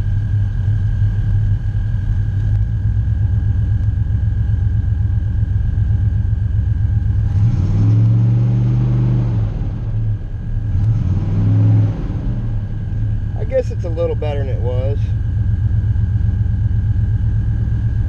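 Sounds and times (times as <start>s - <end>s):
pickup engine idling and revving: 0.0s - 18.0s.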